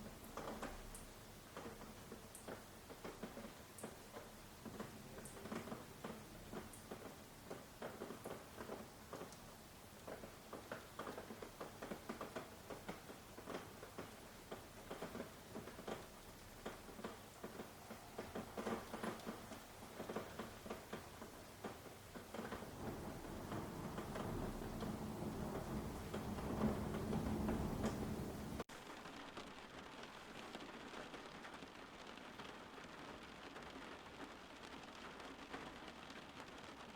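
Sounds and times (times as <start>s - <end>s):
rain drops tapping on leaves: 0.0s - 36.9s
soft background hiss: 0.0s - 36.9s.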